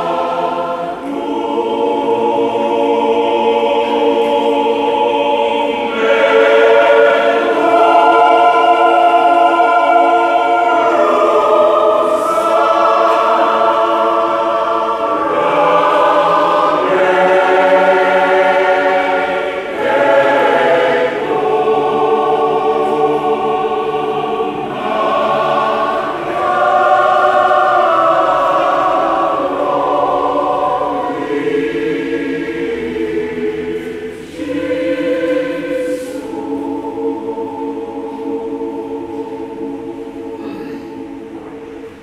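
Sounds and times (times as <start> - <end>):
choir singing a hymn: 0.0 - 42.0.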